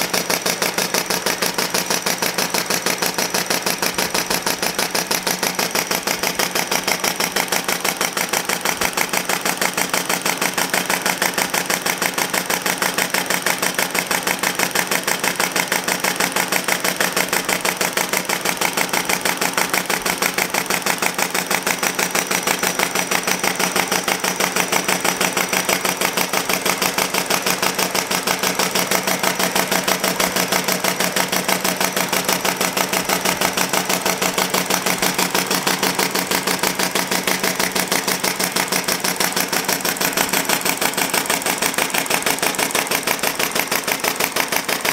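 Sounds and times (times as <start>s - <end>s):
model engine exhaust puffs: 0.0s - 44.9s.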